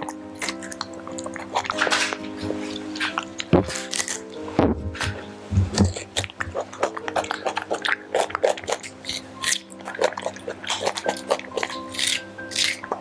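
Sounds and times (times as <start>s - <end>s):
monkey chewing cucumber: 0.0s - 4.4s, 5.6s - 13.0s
background music: 0.0s - 13.0s.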